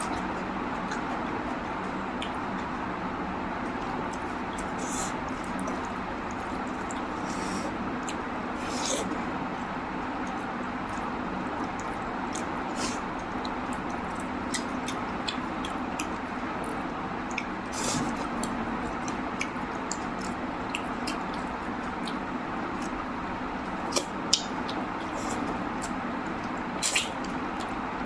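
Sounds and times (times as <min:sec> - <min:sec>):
person chewing food: 0:03.6 - 0:27.8.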